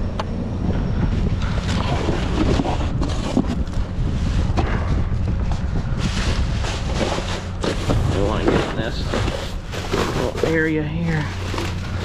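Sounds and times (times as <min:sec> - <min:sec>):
wind buffeting microphone: 0:00.0 - 0:12.0
rustling noise: 0:01.5 - 0:12.0.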